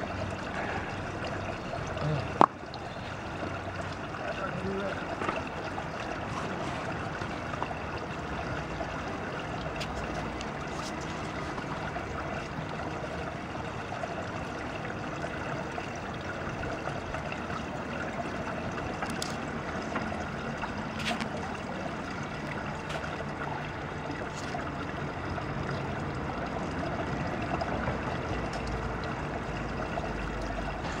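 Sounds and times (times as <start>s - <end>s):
pool water trickling: 0.0s - 31.0s.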